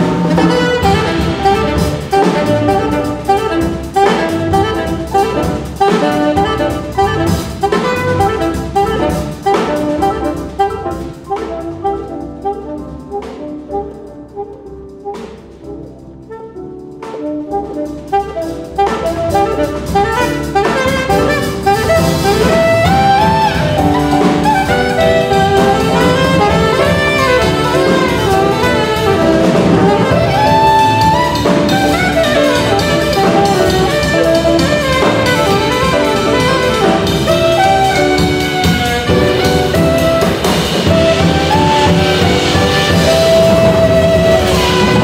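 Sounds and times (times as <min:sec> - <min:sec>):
electric bass: 0:00.0 - 0:12.4, 0:17.6 - 0:45.0
drum kit: 0:00.0 - 0:45.0
piano: 0:00.0 - 0:45.0
tenor saxophone solo: 0:00.0 - 0:45.0.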